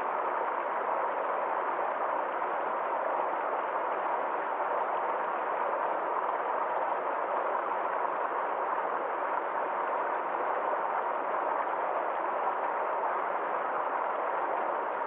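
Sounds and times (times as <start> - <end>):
stream water over small waterfall: 0.0 - 15.0.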